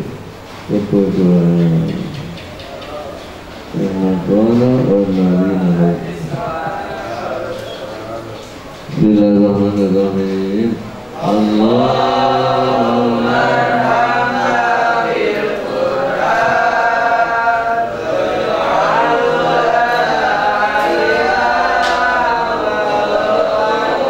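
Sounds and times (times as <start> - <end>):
men chanting together: 2.9 - 9.8, 10.8 - 24.0.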